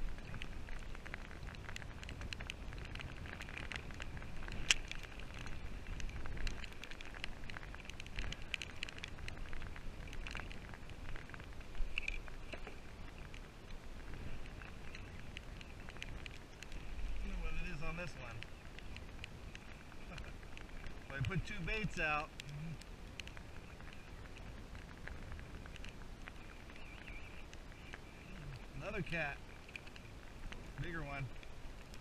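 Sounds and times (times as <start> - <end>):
rain pattering on kayak: 0.0 - 32.0
wind rumble on microphone: 0.0 - 32.0.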